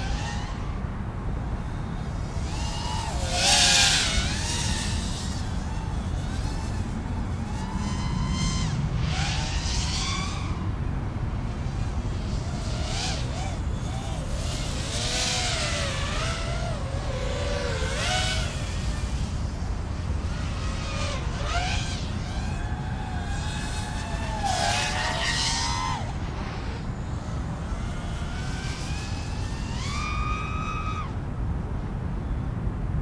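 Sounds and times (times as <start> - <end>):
drone motors whining: 0.0 - 31.3
wind rumble on microphone: 0.0 - 33.0.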